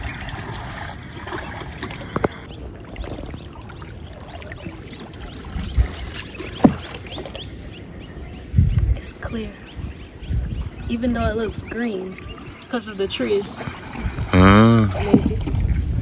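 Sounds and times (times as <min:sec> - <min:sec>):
water lapping on wooden hull: 0:00.0 - 0:16.0.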